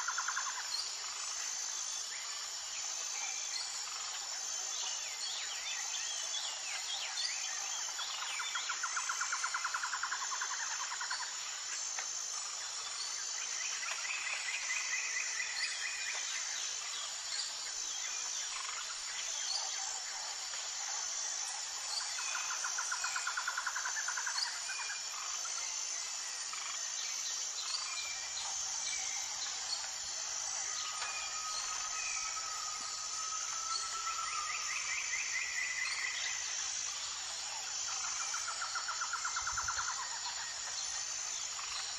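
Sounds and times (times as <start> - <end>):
insect chorus with pulsing note: 0.0 - 41.9.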